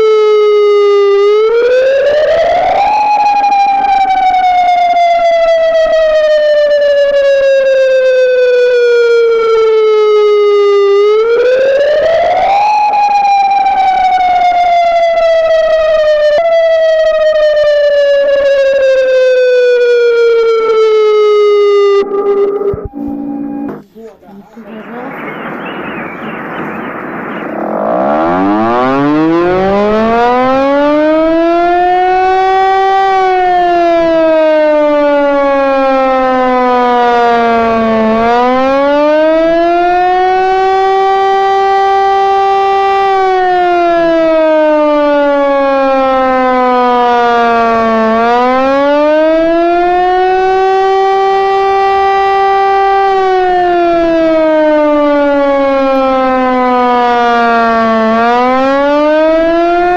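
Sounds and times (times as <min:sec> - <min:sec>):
warning siren wailing: 0:00.0 - 0:23.9, 0:24.6 - 0:59.9.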